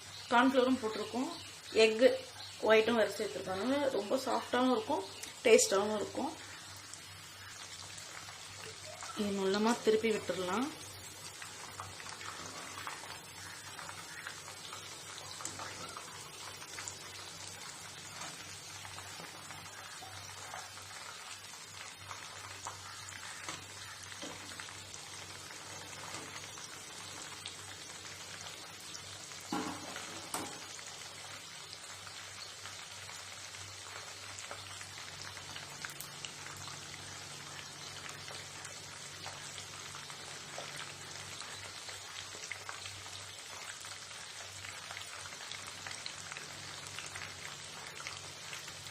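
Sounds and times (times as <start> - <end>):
chicken deep-frying in oil: 0.0 - 48.9.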